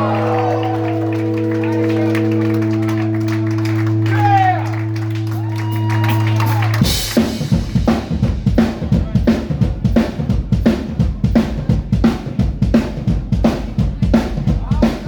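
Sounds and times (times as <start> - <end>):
drum kit playing a beat: 0.0 - 15.0.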